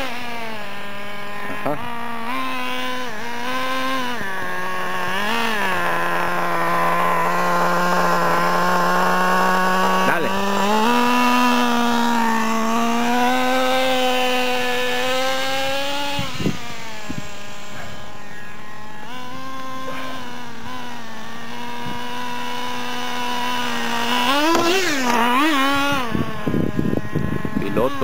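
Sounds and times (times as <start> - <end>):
small nitro engine revving: 0.0 - 28.0.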